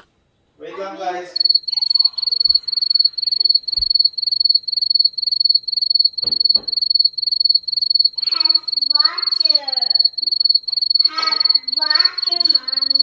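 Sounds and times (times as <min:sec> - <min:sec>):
cricket chirping: 0:01.3 - 0:13.0.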